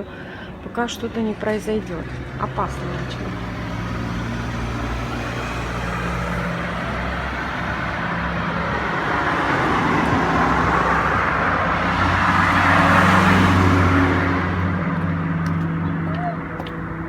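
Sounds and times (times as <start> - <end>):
low traffic hum: 0.0 - 17.0
passing vehicle engine and tyres: 0.0 - 17.0.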